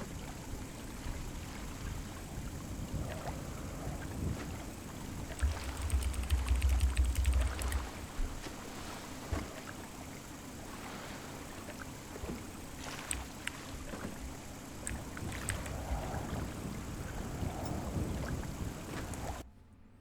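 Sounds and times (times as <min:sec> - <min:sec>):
water lapping around boat: 0:00.0 - 0:19.5.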